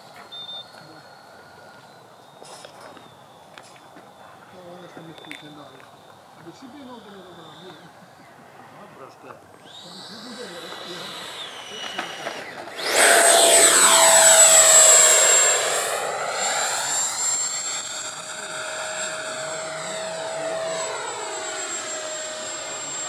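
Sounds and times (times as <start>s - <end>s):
electric ducted fan whining: 0.0s - 23.0s.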